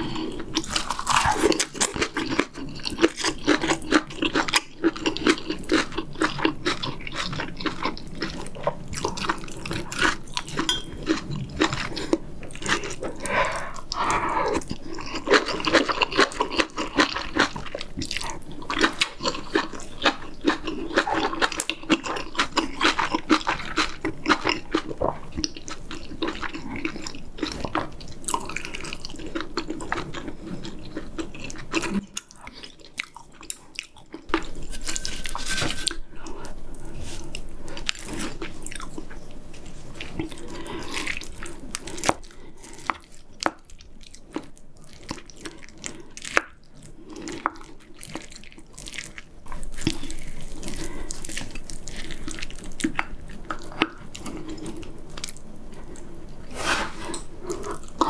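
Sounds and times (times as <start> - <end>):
wet chewing and smacking: 0.0 - 56.5.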